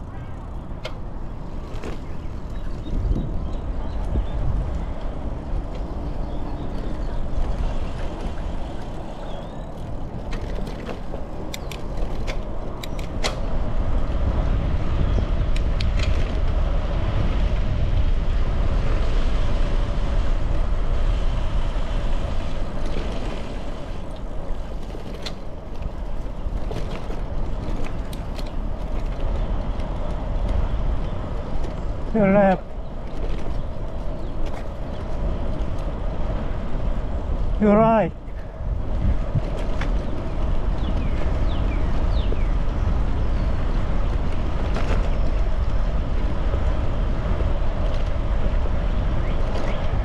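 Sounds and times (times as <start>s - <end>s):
bike clicks and rattles: 0.0s - 20.8s, 21.4s - 37.6s, 38.2s - 50.0s
bicycle tyres rolling on asphalt: 0.0s - 50.0s
wind rushing over microphone: 0.0s - 50.0s.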